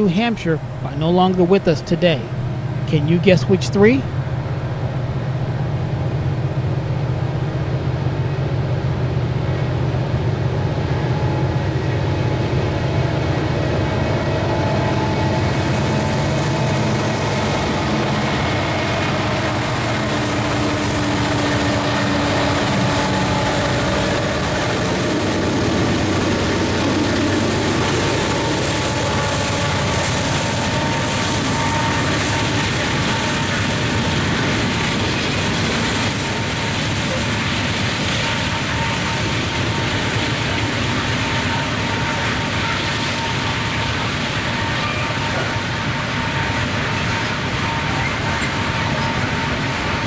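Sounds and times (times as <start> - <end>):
diesel locomotives under load: 0.0 - 50.0.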